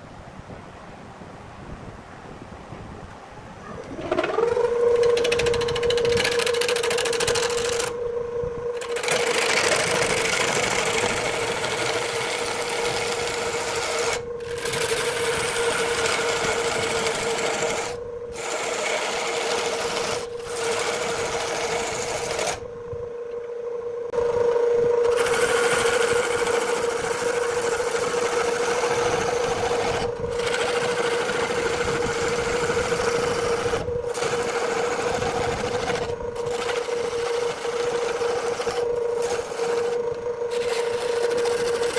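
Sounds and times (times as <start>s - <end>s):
wood lathe humming: 3.7s - 41.9s
turning tool scraping wood: 3.8s - 8.0s, 8.7s - 22.6s, 25.0s - 41.9s.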